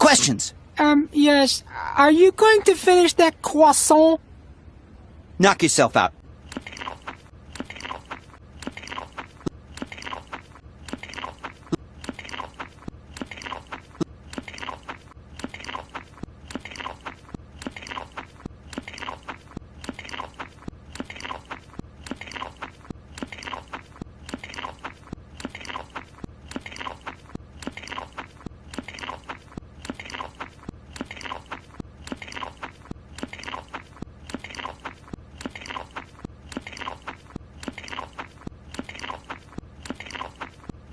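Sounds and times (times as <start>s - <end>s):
cartoon crunchy chewing: 6.4s - 40.9s.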